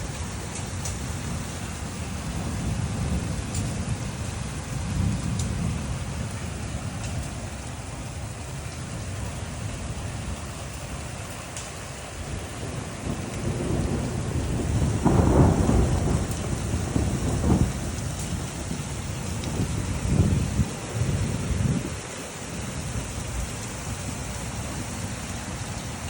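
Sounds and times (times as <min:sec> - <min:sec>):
thunder rumbling: 0:00.0 - 0:24.8
steady rainfall: 0:00.0 - 0:26.0.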